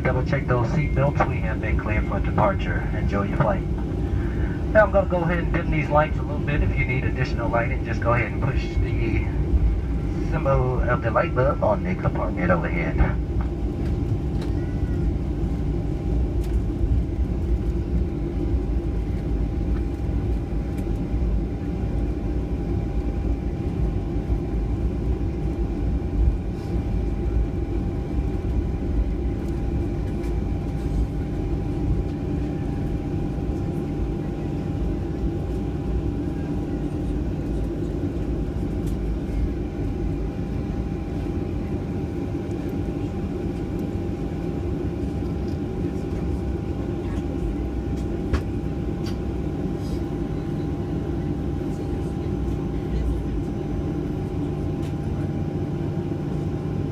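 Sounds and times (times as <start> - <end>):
airliner bumping on taxiway: 0.0 - 56.5
jet engines low rumble: 0.0 - 56.9
thin steady engine whine: 0.0 - 56.9.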